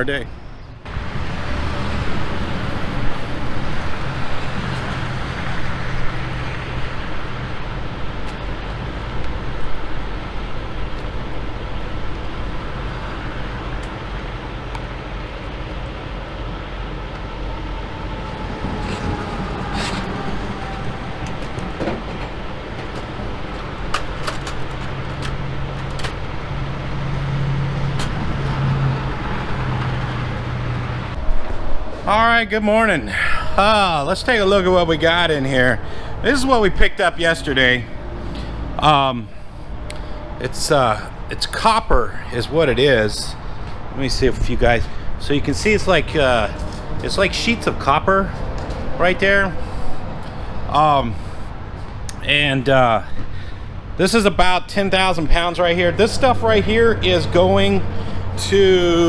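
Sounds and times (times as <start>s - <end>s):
truck engine humming: 0.0s - 59.0s.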